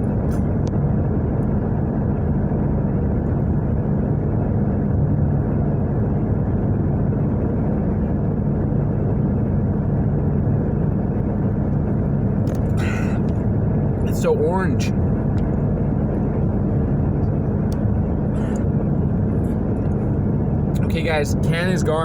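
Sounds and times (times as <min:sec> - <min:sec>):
engine and road drone: 0:00.0 - 0:22.0.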